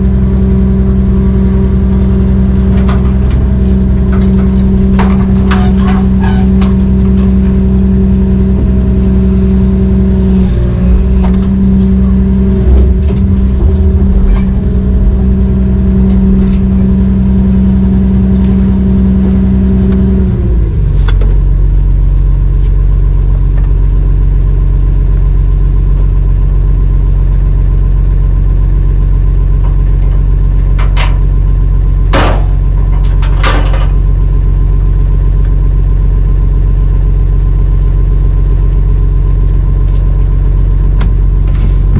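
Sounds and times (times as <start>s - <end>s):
heavy diesel excavator engine: 0.0s - 41.9s.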